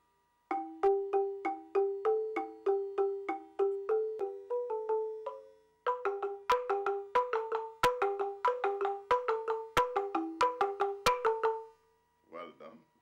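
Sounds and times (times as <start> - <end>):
balafon struck with mallets: 0.5 - 11.8.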